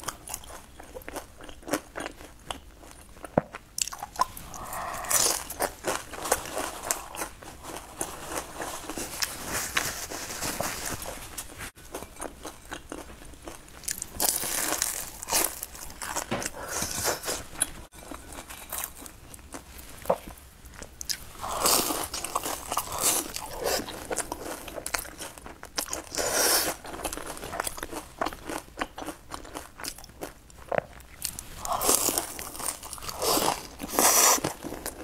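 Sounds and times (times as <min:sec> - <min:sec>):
crunching and chewing: 0:00.0 - 0:35.0.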